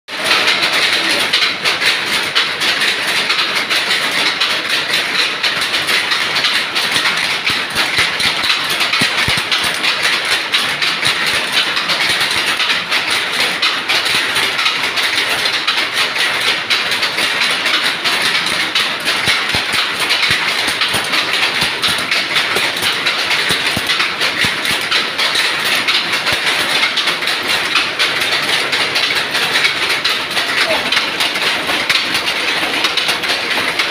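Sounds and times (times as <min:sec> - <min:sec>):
power looms clattering: 0:00.1 - 0:33.9.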